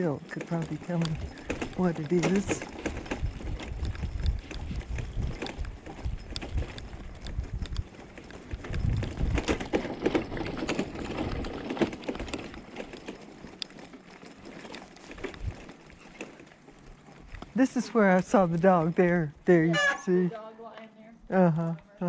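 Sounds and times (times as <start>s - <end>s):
bicycle rattling over bumpy street: 0.0s - 22.0s.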